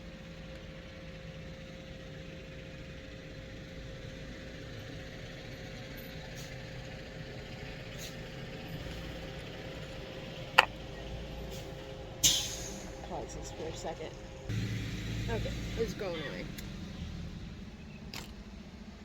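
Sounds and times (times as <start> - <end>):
large vehicle engine idling: 0.0 - 19.0.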